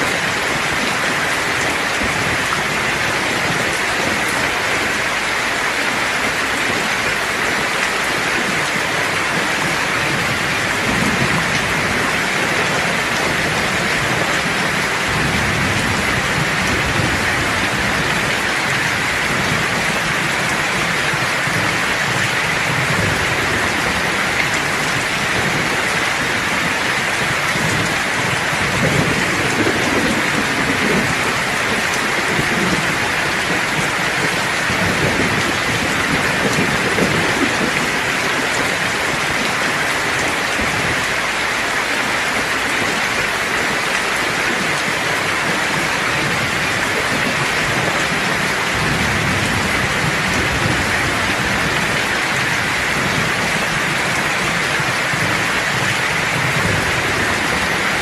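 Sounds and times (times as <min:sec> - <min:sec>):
heavy rain hissing: 0:00.0 - 0:58.0
thunder rumbling: 0:00.0 - 0:58.0.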